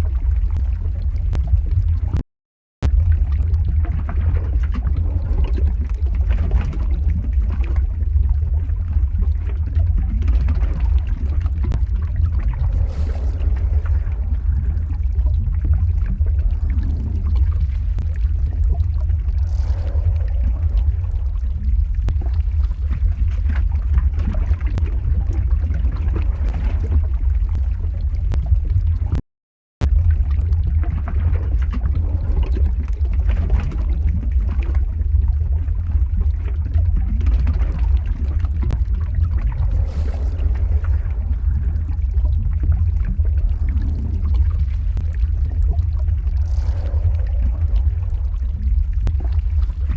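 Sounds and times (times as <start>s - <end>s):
deep rumble: 0.0s - 2.2s, 2.8s - 29.2s, 29.8s - 49.9s
lava pouring and gurgling: 0.0s - 2.2s, 2.8s - 29.2s, 29.8s - 49.9s.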